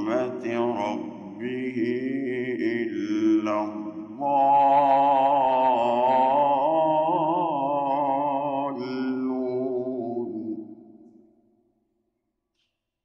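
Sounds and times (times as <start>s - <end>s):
man chanting melodically: 0.0s - 10.8s.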